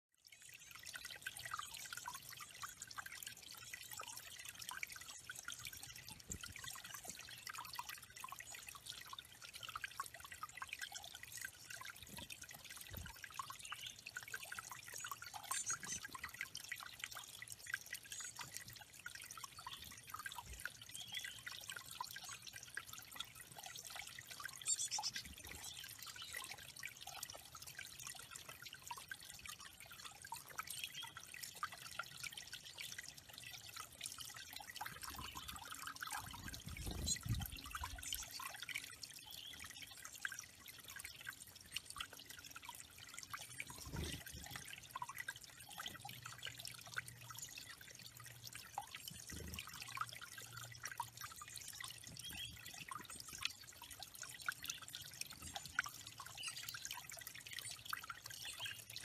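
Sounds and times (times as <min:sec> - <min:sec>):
water trickling and dripping: 0:00.2 - 0:59.0.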